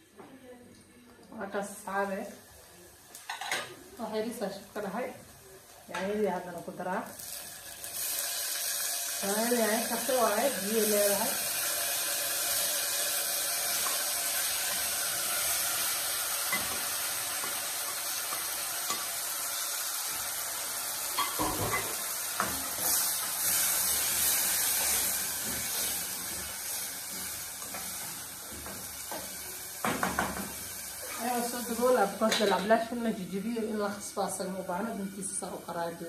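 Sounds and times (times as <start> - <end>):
tomatoes sizzling in hot oil: 1.6 - 36.0.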